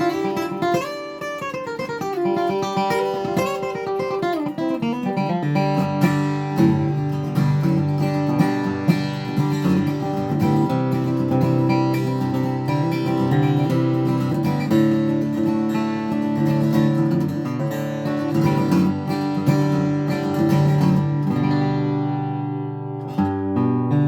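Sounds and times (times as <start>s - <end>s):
acoustic guitar flatpicking: 0.0s - 24.0s.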